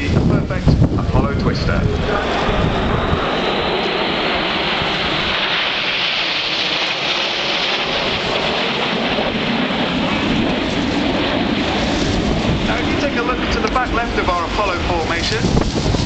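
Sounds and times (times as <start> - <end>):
jets passing overhead: 0.0 - 16.0.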